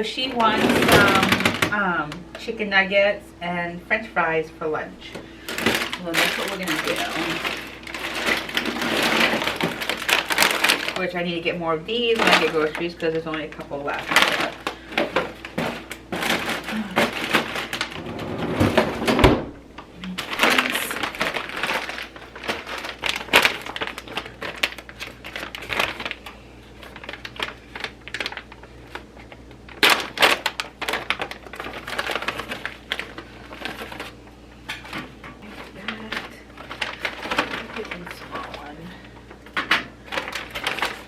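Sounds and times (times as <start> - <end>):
packaging rustling: 5.2 - 41.0.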